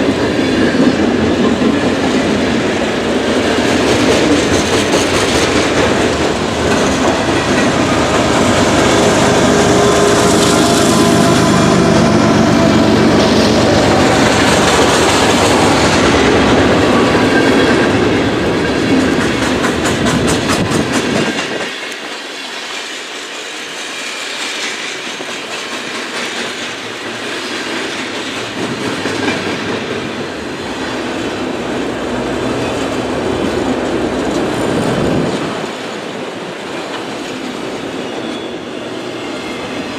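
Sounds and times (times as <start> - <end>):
wheels clacking over rail joints: 0.0 - 38.5.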